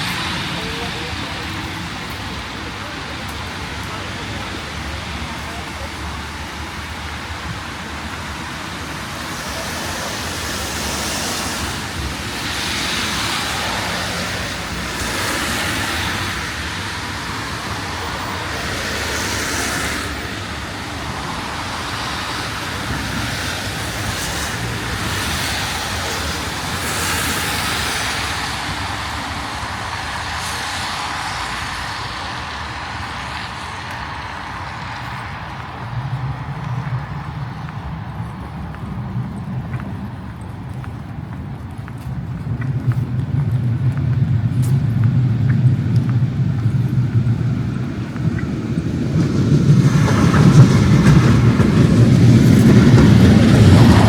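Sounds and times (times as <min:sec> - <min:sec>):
cars passing on wet road: 0:00.0 - 0:54.0.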